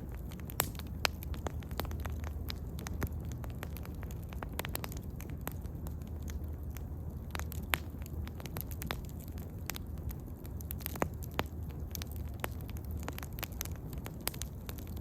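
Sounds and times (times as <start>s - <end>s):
bonfire crackling and popping: 0.0s - 15.0s
fire low rumble: 0.0s - 15.0s.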